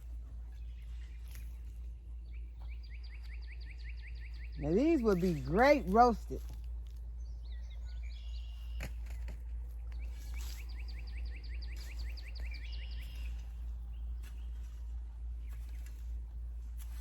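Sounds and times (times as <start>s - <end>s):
low outdoor rumble: 0.0s - 17.0s
songbird chirping and trilling: 0.2s - 17.0s.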